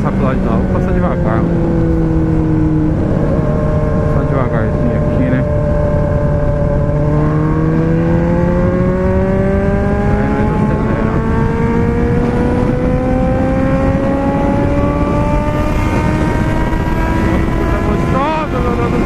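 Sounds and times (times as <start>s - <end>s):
car engine revving: 0.0s - 19.0s
road noise: 0.0s - 19.0s.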